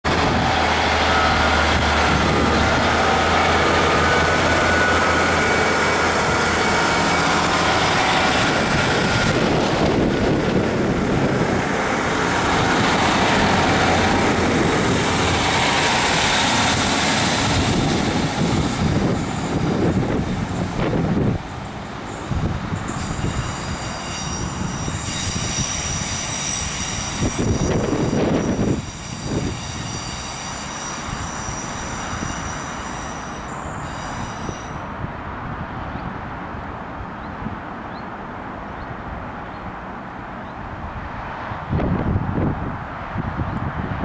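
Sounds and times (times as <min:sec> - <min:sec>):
diesel train engines: 0:00.1 - 0:44.0.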